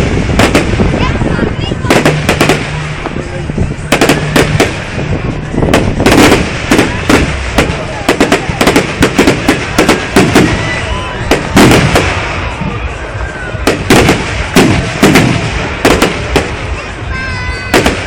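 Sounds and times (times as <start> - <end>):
crackling rumble of fireworks: 0.0 - 18.0
fireworks bangs: 0.0 - 18.0.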